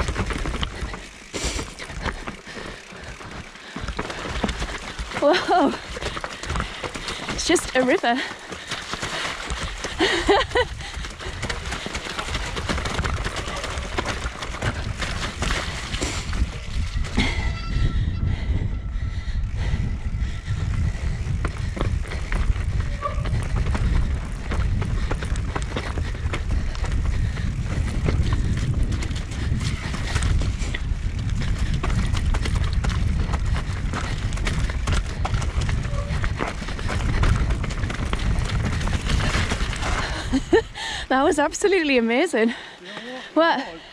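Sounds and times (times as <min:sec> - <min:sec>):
wind rumble on microphone: 0:00.0 - 0:03.4, 0:09.2 - 0:41.6
bike rattling: 0:00.0 - 0:43.6
bike tyres on muddy trail: 0:00.0 - 0:43.9.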